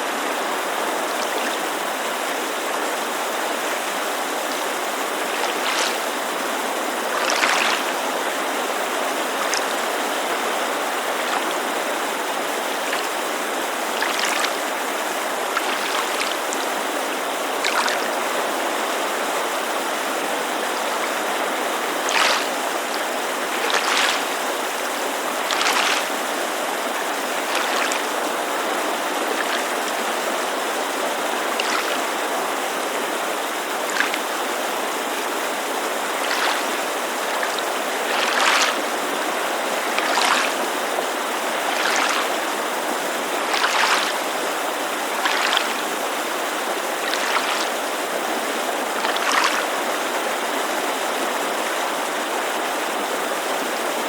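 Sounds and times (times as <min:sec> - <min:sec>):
water lapping against shore: 0:00.0 - 0:51.8
creek rushing: 0:00.0 - 0:54.0.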